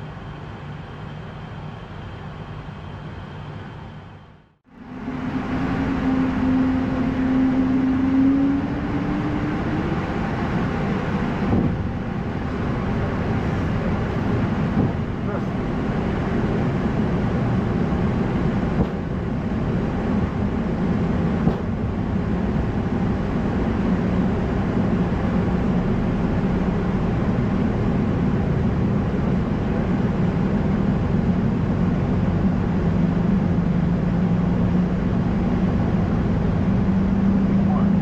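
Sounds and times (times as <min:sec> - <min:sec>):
airflow and engine rush: 0:00.0 - 0:38.0.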